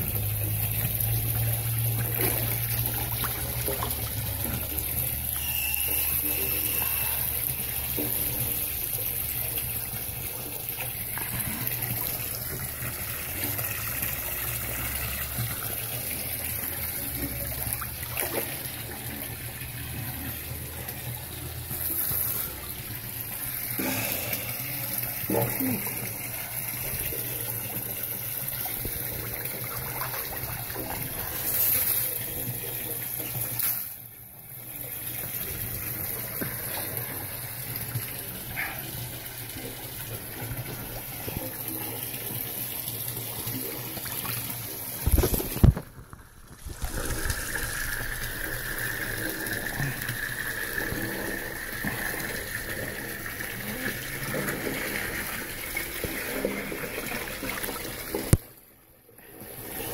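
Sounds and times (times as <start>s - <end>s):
water pouring into tub: 0.0s - 58.6s, 59.3s - 59.9s.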